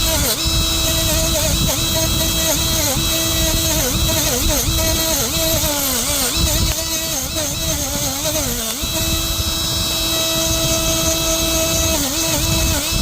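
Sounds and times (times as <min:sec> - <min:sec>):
die grinder whining: 0:00.0 - 0:13.0.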